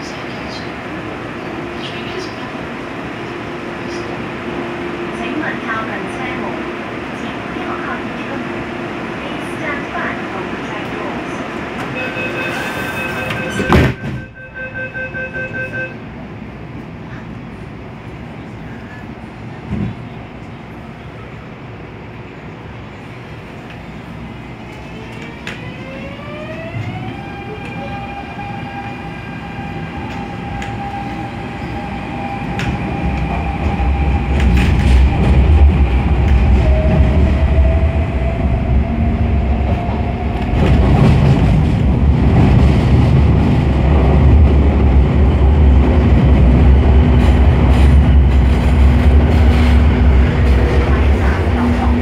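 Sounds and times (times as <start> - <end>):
train running noise and rumble: 0.0 - 52.0.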